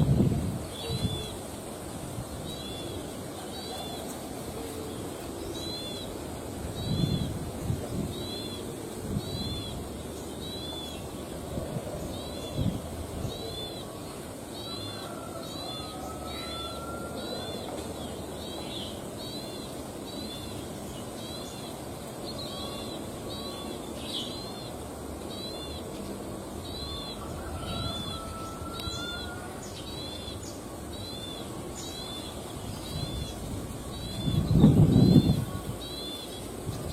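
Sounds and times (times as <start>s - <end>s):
bird chirping: 6.8s - 36.9s.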